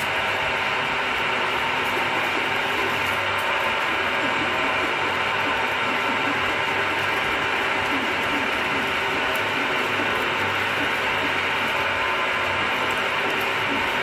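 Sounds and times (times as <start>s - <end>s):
drill bit cutting metal: 0.0s - 14.0s
milling machine gear noise: 0.0s - 14.0s.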